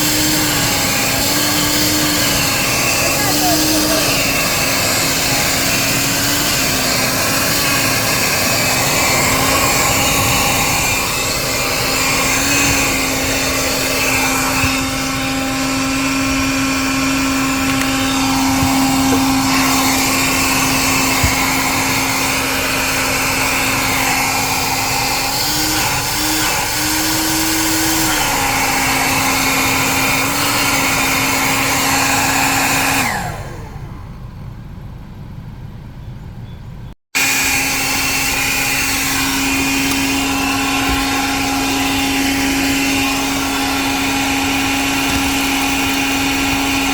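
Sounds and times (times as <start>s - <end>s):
shop vac motor whining: 0.0s - 34.6s, 37.1s - 46.9s.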